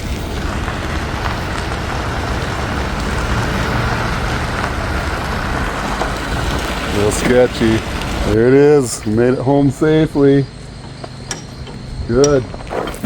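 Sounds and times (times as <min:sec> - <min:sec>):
low vehicle rumble: 0:00.0 - 0:13.0
road and tyre noise: 0:00.0 - 0:13.0.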